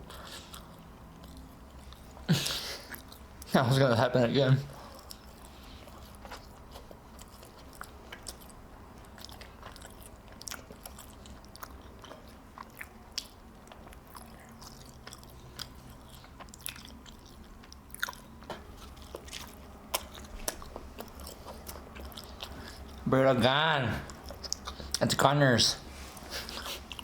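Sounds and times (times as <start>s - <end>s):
chewing and biting crunchy food: 0.0s - 3.5s, 4.7s - 23.1s, 24.0s - 25.1s, 26.0s - 27.0s.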